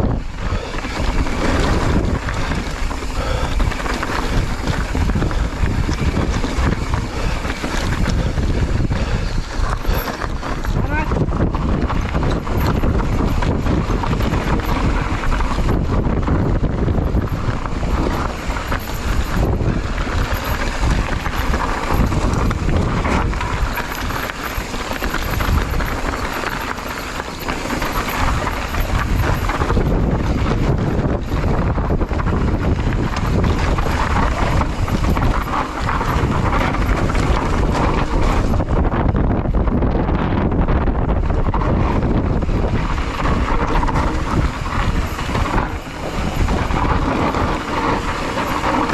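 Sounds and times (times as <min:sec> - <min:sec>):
bike knocks and rattles: 0:00.0 - 0:48.9
wind buffeting microphone: 0:00.0 - 0:48.9.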